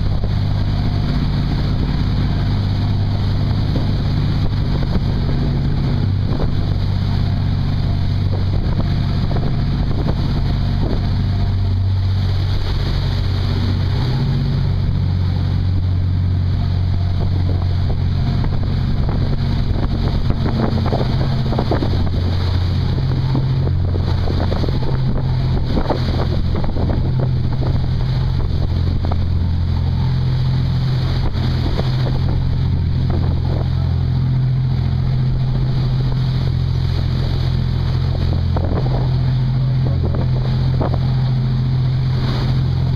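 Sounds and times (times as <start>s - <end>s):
boat engine drone: 0.0s - 42.9s
wake churning and splashing: 0.0s - 42.9s
wind on microphone: 0.0s - 42.9s.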